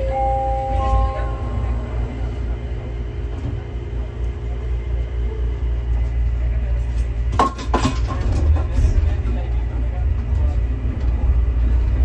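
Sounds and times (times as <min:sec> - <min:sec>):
train car low hum: 0:00.0 - 0:12.0.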